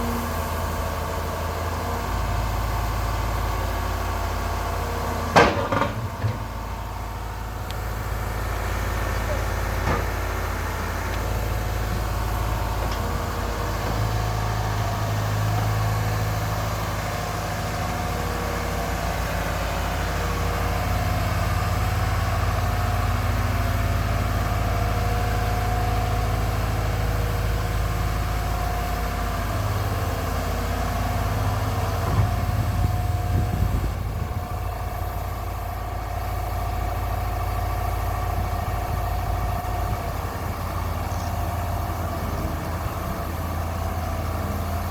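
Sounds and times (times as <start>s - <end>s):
diesel engine running at low revs: 0.0s - 44.9s.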